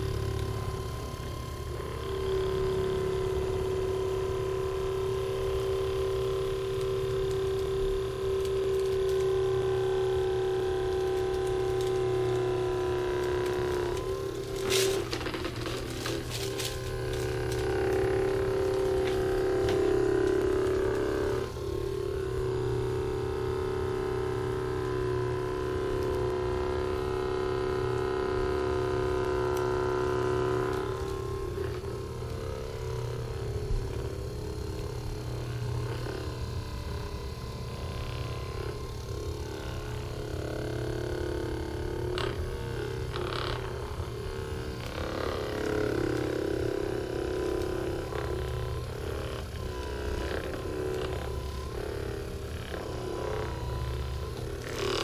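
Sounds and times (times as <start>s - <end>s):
small electric motor humming: 0.0s - 55.0s.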